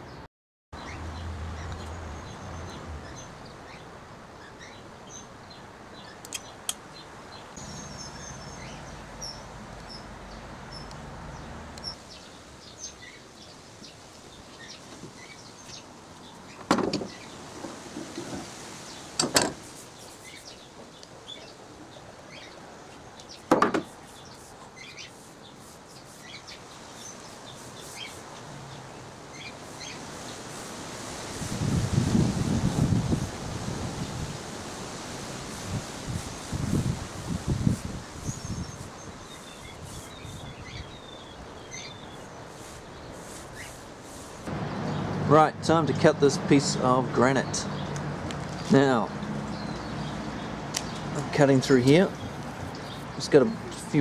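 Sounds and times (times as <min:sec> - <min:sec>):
birds chirping: 0:00.0 - 0:17.6, 0:18.4 - 0:30.5, 0:37.6 - 0:54.0.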